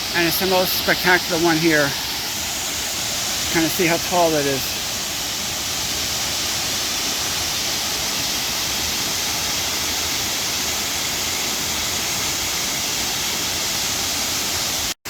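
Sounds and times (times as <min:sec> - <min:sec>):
waterfall crashing into pool: 0:00.0 - 0:15.0.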